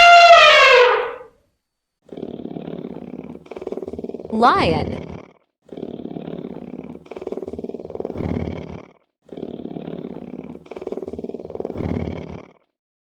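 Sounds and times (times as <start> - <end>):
lion roaring: 2.0 - 12.7.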